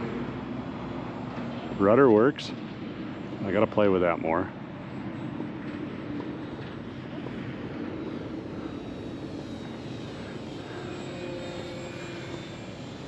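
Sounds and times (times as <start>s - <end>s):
propeller motor whine and drone: 0.0s - 13.0s.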